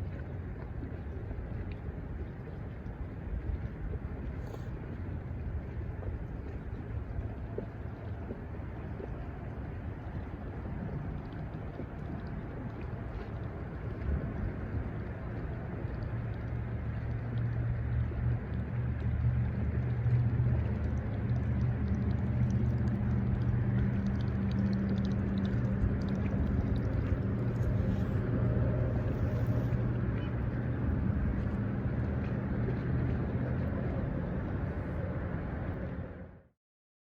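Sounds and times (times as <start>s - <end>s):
engine running steadily: 0.0s - 36.5s.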